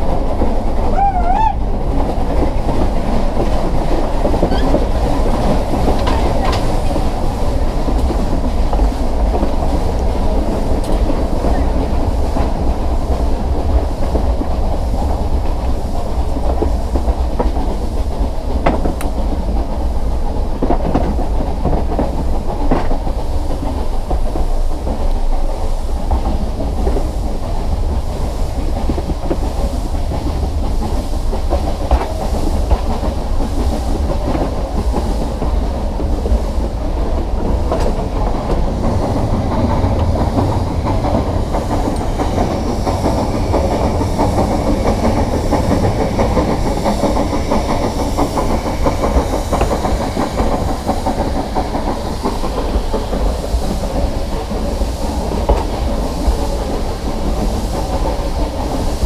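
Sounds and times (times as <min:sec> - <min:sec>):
train coach rumble: 0:00.0 - 0:59.0
wheels clacking over rails: 0:00.0 - 0:59.0.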